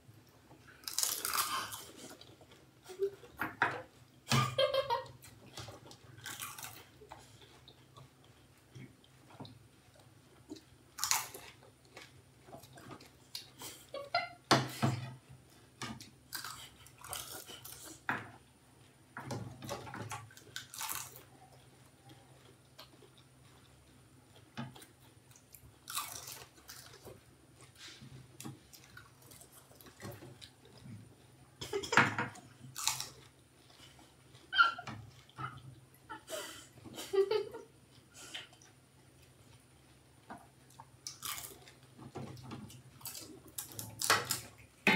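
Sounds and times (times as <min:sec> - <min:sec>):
people crunching and chewing: 0:00.2 - 0:44.9.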